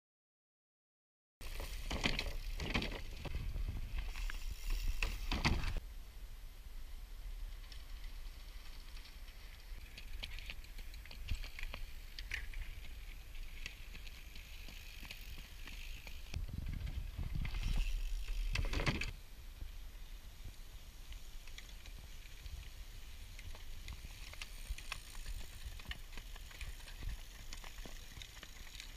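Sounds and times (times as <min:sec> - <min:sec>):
bikes clicking and rattling: 0:01.4 - 0:05.8, 0:07.4 - 0:19.2, 0:20.3 - 0:28.9.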